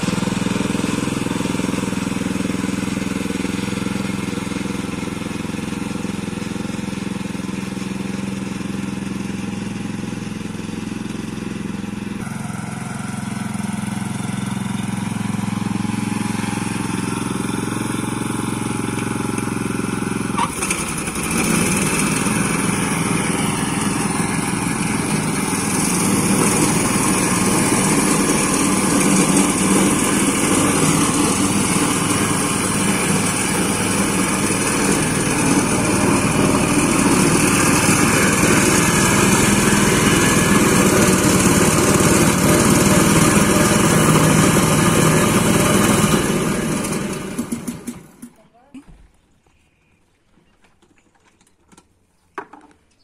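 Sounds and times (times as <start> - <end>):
riding mower engine running: 0.0 - 48.5.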